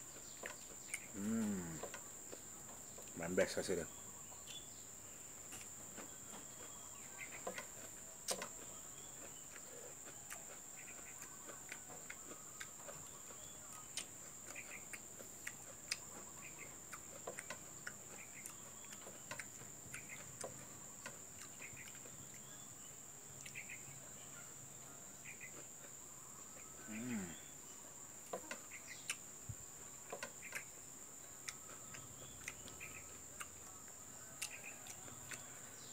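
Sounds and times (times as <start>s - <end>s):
eating by hand clicks and smacks: 0.0s - 3.5s, 5.4s - 24.0s, 28.2s - 35.9s
insect chirring: 0.0s - 35.9s.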